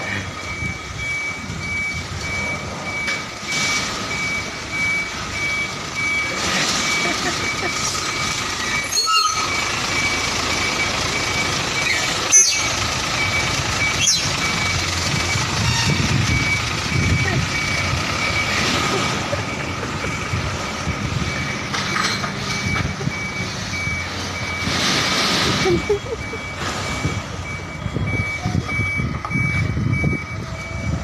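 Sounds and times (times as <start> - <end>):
diesel truck engine running: 0.0 - 31.0
reversing alarm beeping: 0.0 - 31.0.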